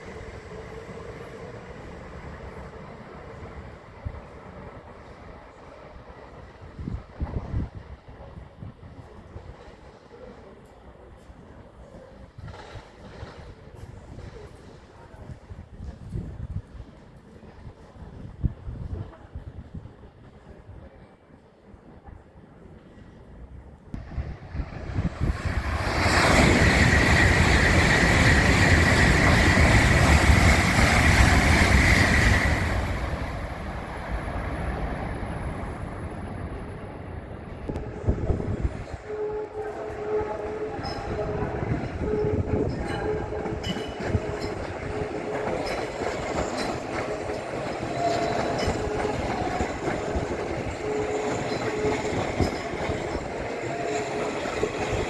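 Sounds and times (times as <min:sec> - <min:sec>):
high-speed train passing: 0:00.0 - 0:55.0.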